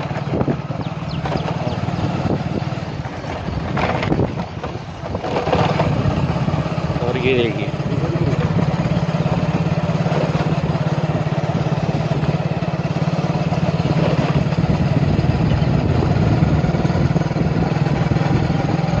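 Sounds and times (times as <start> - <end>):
road noise: 0.0 - 19.0
small vehicle engine running: 0.0 - 19.0.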